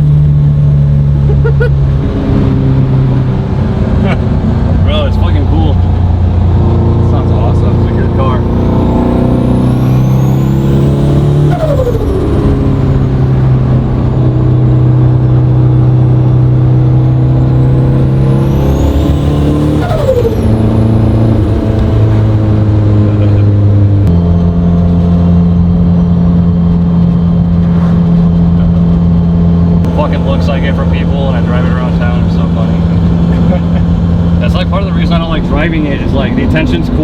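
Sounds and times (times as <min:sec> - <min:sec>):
car engine cruising: 0:00.0 - 0:37.0
turbo whine: 0:00.0 - 0:37.0.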